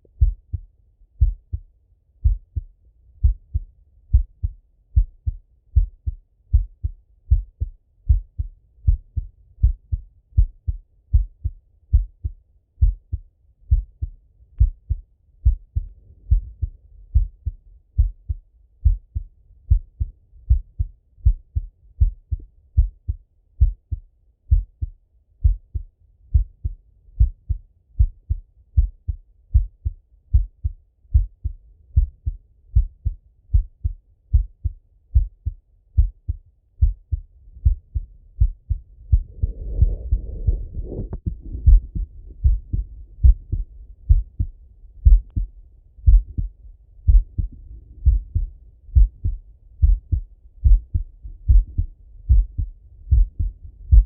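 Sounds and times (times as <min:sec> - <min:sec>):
heartbeat thumps: 0:00.1 - 0:54.0.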